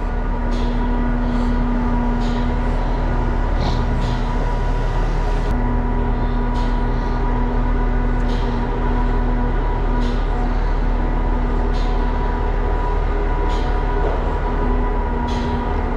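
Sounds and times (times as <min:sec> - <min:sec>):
mechanical engine drone: 0:00.0 - 0:15.9.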